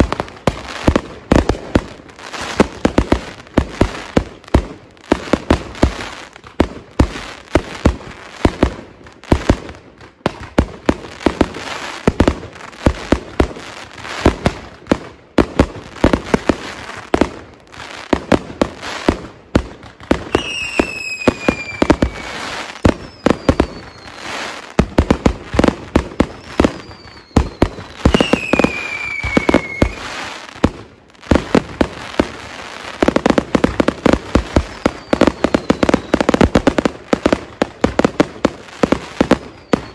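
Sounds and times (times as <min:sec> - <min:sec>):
whistling fireworks falling in pitch: 0:00.0 - 0:09.6, 0:15.4 - 0:39.9
firework bangs and crackles: 0:00.0 - 0:39.9.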